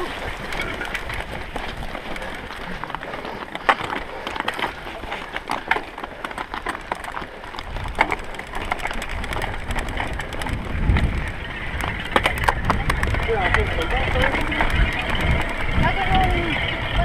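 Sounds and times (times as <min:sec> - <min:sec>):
bike chain clattering: 0:00.0 - 0:17.0.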